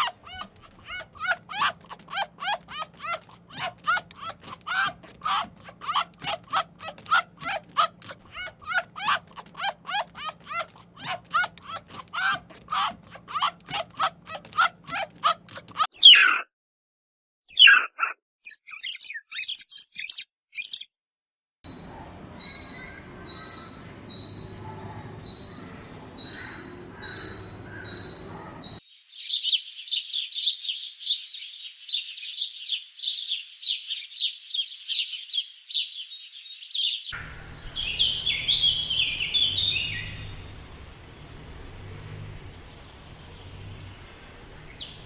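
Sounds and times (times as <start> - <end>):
small birds chirping: 0.0 - 16.2, 17.6 - 21.0, 21.7 - 45.0.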